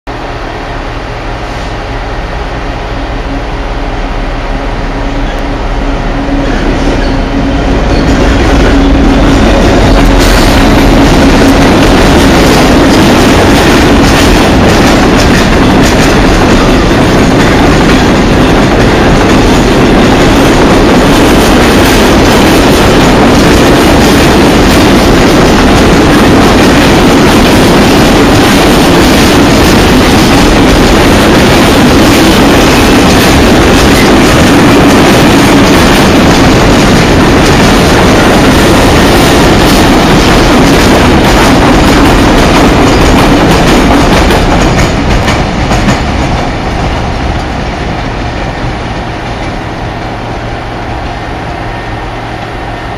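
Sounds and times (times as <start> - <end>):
freight train wheels clattering: 5.2 - 52.8.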